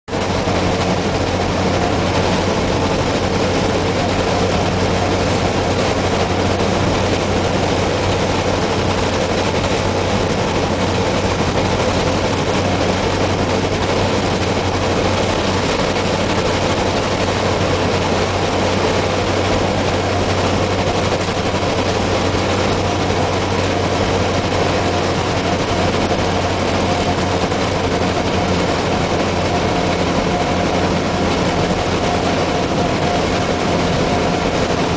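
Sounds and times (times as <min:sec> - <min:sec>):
road and wind noise: 0:00.1 - 0:34.9
truck diesel engine droning: 0:00.1 - 0:34.9.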